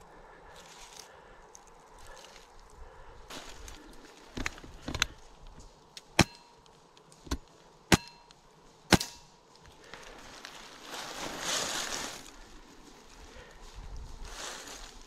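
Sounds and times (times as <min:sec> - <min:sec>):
rustling of dry leaves: 0:00.0 - 0:15.0.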